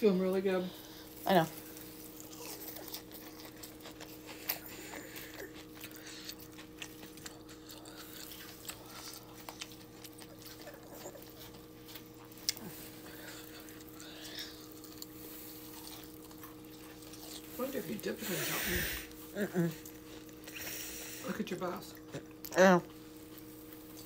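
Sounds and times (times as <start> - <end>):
steady background hum: 0.0 - 24.0
person chewing close to microphone: 1.0 - 24.0.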